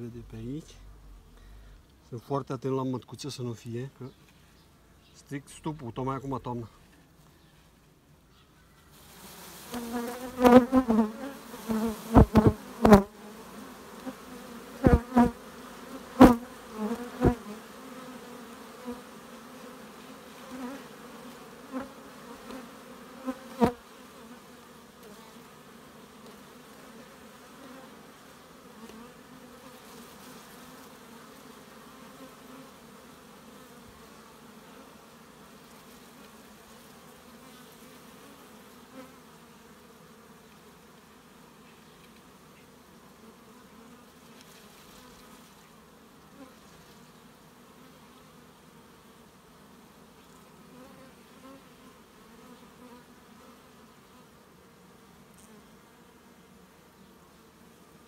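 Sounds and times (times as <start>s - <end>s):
bees buzzing: 8.9s - 58.0s.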